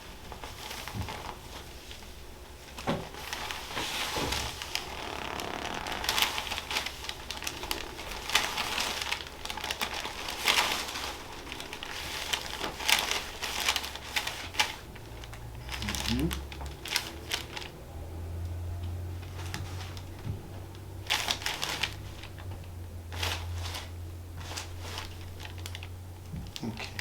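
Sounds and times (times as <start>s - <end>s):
paper crinkling and rustling: 0.2s - 27.0s.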